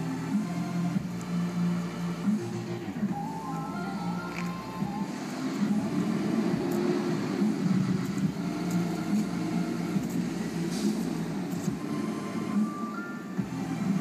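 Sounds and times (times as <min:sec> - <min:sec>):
music from car stereo: 0:00.0 - 0:14.0.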